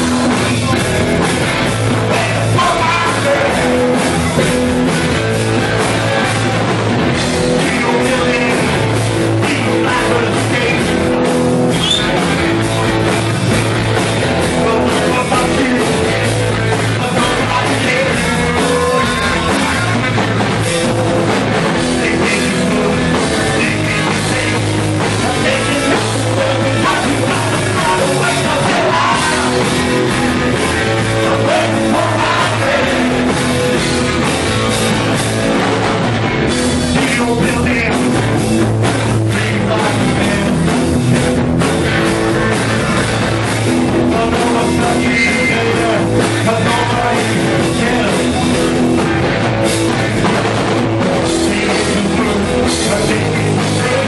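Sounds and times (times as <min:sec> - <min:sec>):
bass line: 0:00.0 - 0:54.0
punk rock band playing: 0:00.0 - 0:54.0.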